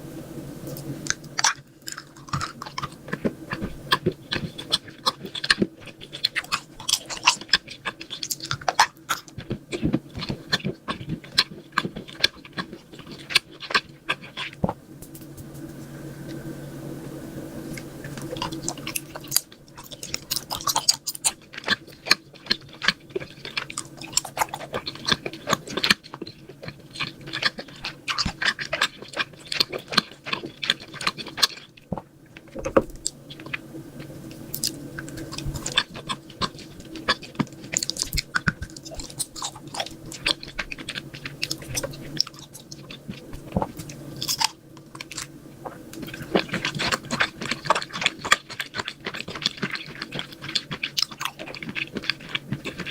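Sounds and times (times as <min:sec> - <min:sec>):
faint low hum: 0:00.0 - 0:52.9
chewing crunchy food: 0:00.6 - 0:16.4, 0:17.1 - 0:52.9.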